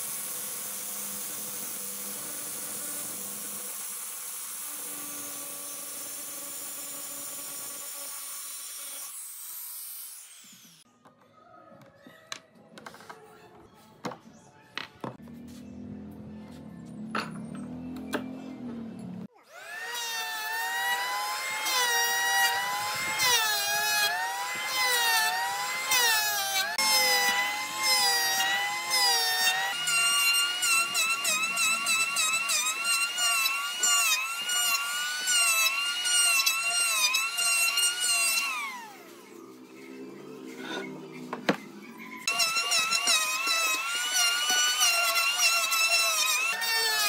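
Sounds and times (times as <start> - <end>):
electric hand planer whine: 0.0 - 10.8, 17.9 - 47.0.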